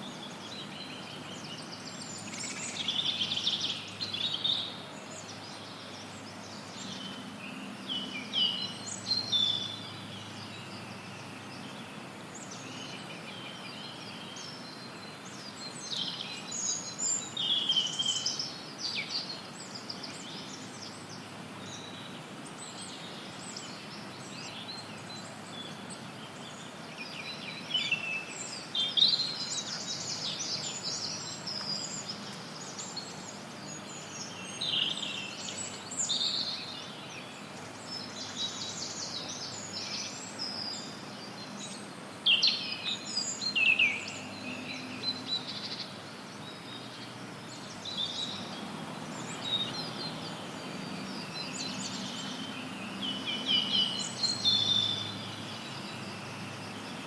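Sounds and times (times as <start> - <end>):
songbirds chirping and trilling: 0.0 - 57.0
white noise hiss: 0.0 - 57.0.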